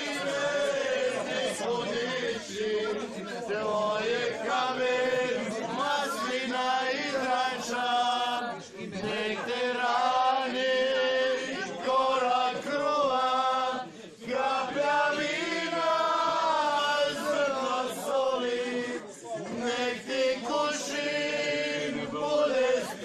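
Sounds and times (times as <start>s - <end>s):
group singing unaccompanied: 0.0s - 23.0s.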